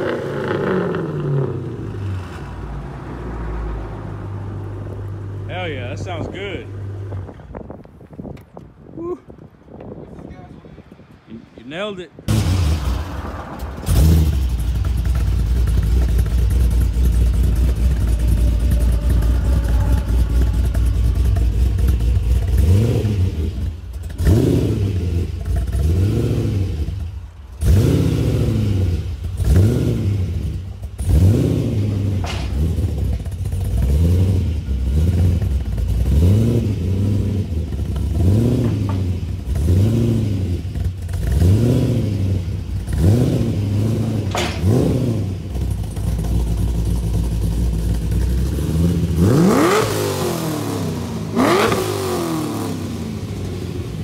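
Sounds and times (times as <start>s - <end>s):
car engine revving: 0.0s - 7.3s, 12.3s - 54.0s.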